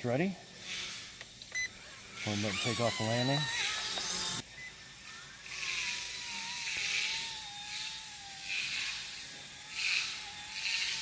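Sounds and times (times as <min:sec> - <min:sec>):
toy helicopter motor whine: 0:00.5 - 0:11.0.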